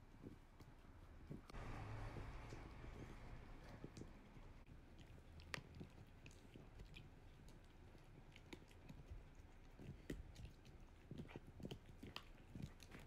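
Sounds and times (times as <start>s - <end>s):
dog gnawing chew bone: 2.1s - 13.0s.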